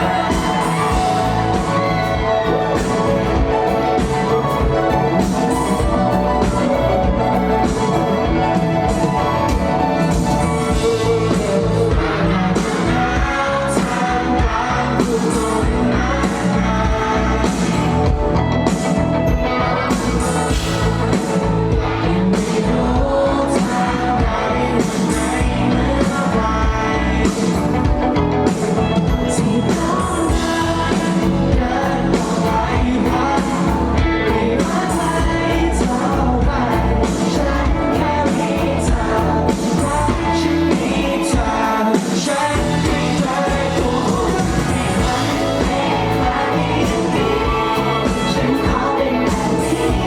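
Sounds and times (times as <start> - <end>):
band playing pop-rock: 0.0 - 50.0
man singing lead vocal: 0.0 - 50.0.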